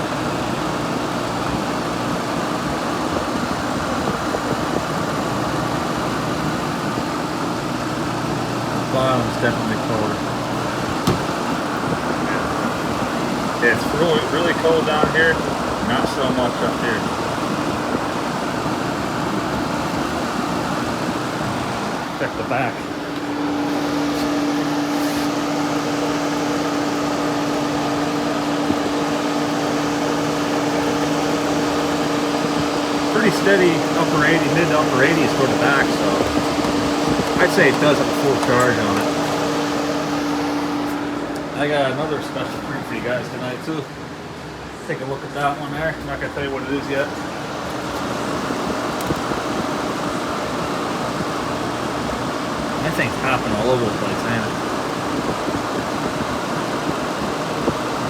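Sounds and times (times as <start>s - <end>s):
air conditioner running: 0.0s - 58.0s.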